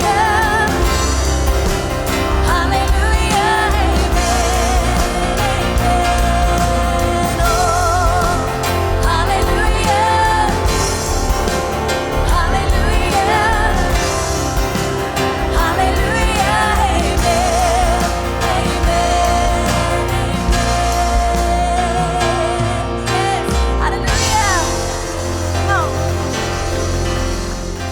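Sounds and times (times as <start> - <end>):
band of keyboards bass and drums: 0.0 - 27.9
person singing with vibrato: 0.0 - 27.9.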